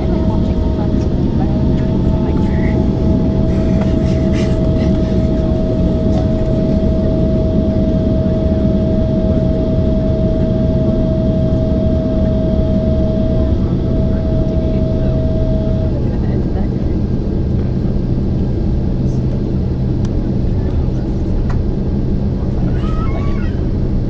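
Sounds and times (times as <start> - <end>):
airliner cabin rumble and whine: 0.0 - 24.0.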